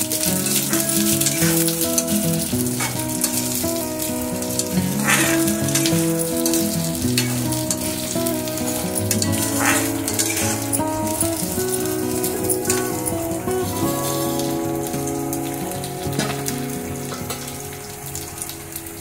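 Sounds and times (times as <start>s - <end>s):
background music: 0.0s - 19.0s
vegetables sizzling in oil: 0.0s - 19.0s.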